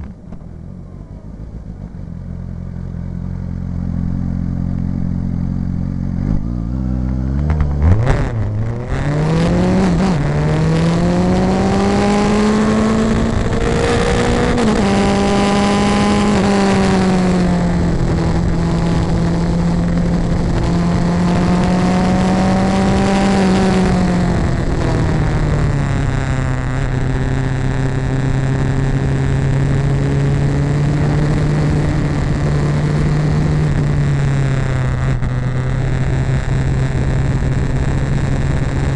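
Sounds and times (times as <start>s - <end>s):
vehicle engine accelerating: 0.0s - 38.9s.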